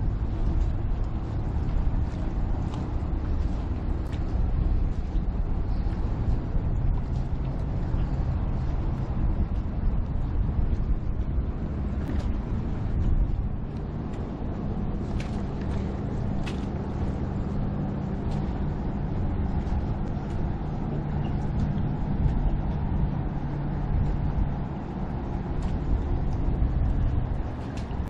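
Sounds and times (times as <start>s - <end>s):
low engine hum: 0.0s - 28.0s
wind rumbling on microphone: 0.0s - 28.0s.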